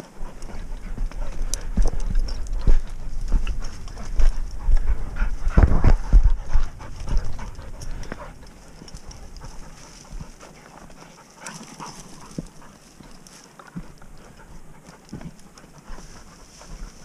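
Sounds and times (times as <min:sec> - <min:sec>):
dog panting: 0:00.0 - 0:17.0
footsteps on stony ground: 0:00.0 - 0:17.0
rustling through scrub: 0:00.0 - 0:17.0.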